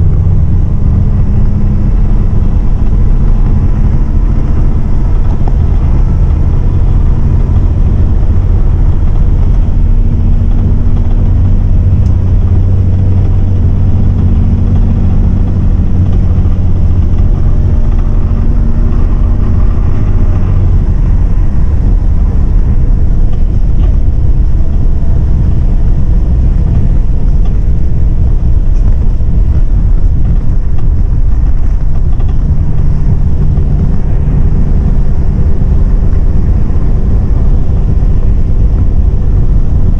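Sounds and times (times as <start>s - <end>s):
bus diesel engine droning: 0.0s - 39.9s
road and tyre noise: 0.0s - 39.9s.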